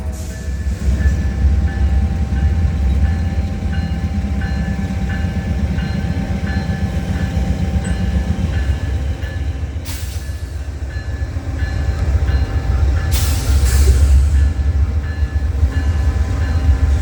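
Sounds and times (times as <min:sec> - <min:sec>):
crossing bell dinging: 0:00.0 - 0:17.0
train rumbling past: 0:00.0 - 0:17.0.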